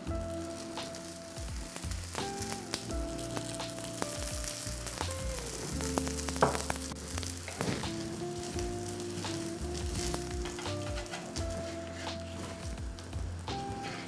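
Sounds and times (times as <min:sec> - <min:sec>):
fat sizzling and spitting: 0:00.0 - 0:14.0.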